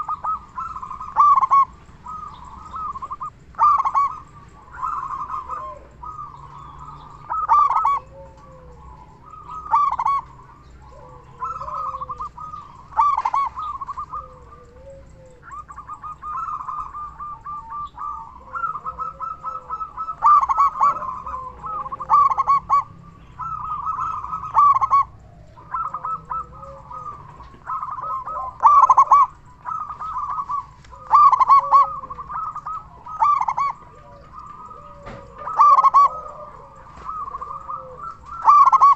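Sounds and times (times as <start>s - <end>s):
dove cooing song: 0.0s - 38.9s.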